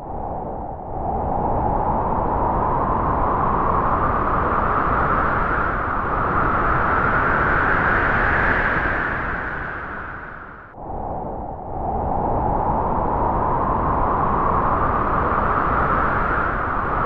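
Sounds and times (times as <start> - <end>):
wind gust rushing: 0.0 - 17.0.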